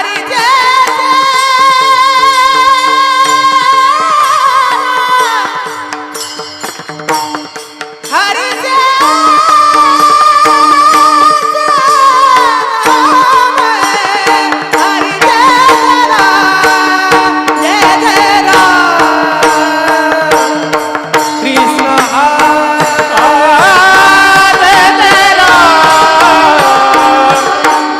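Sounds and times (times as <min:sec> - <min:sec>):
person singing devotional song: 0:00.0 - 0:06.3, 0:08.0 - 0:27.9.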